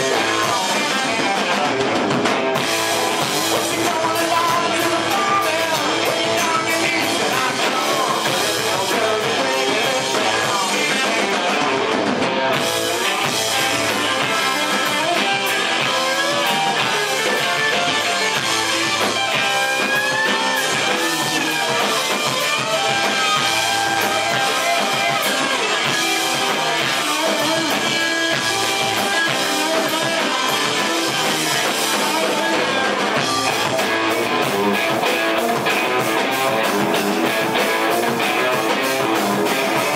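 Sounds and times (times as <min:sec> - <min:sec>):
person singing: 0:00.0 - 0:01.8, 0:03.2 - 0:12.0, 0:13.0 - 0:39.9
drum kit: 0:00.0 - 0:39.9
electric guitars: 0:00.0 - 0:39.9.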